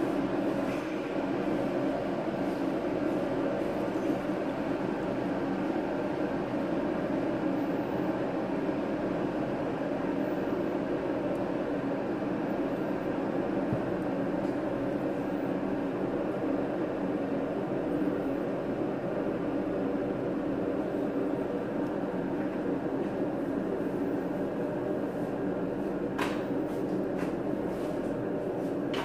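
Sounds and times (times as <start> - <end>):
machine drone with low hum: 0.0 - 29.0.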